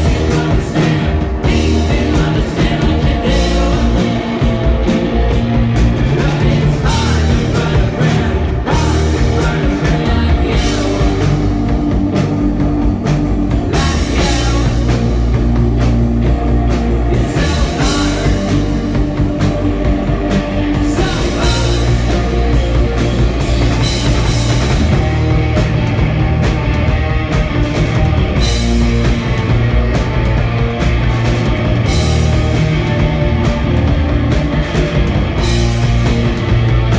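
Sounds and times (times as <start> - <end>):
live rock band playing: 0.0 - 36.9
steady drum beat: 0.0 - 36.9.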